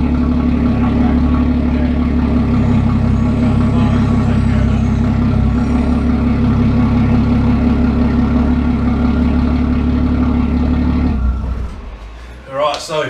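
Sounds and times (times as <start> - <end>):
machine humming: 0.0 - 12.6.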